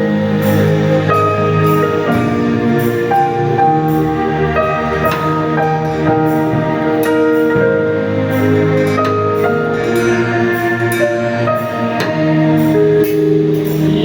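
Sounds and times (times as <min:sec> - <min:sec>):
instrumental gospel music: 0:00.0 - 0:14.0.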